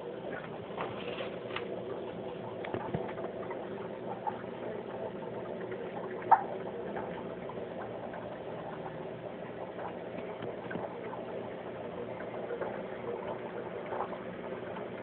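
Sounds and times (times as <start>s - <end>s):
aquarium pump humming: 0.0s - 15.0s
water bubbling: 0.0s - 15.0s.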